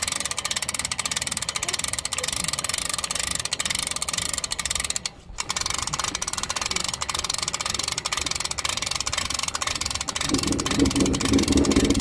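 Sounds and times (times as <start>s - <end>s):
outboard motor rattling: 0.0s - 12.0s.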